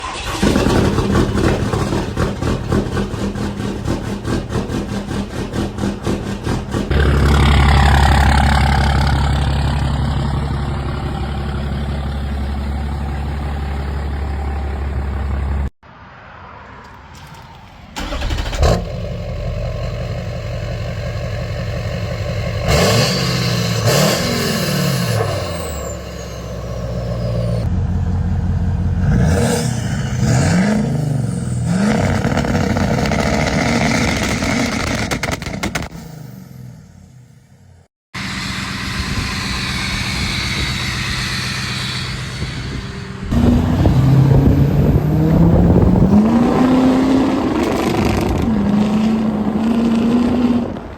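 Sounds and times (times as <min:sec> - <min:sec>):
diesel truck engines revving: 0:00.0 - 0:15.8, 0:18.0 - 0:50.9.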